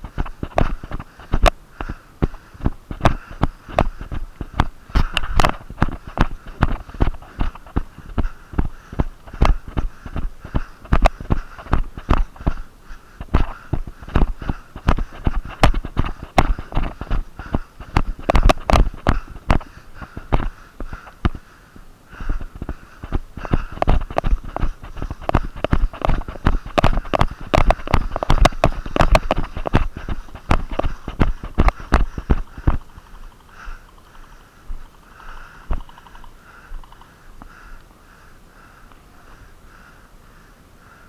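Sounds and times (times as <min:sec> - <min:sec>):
footsteps in woods: 0:00.0 - 0:39.9
heavy nasal breathing: 0:00.0 - 0:41.0.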